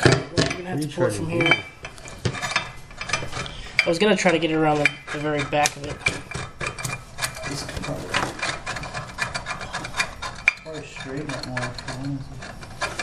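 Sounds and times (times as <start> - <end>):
metal tools clinking and scraping: 0.0 - 13.0.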